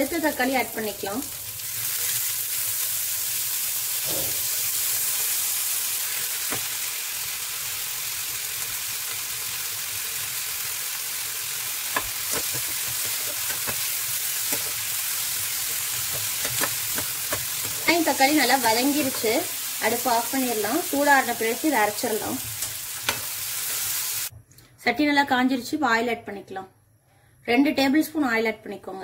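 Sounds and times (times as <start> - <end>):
vegetables sizzling in oil: 0.0 - 24.3.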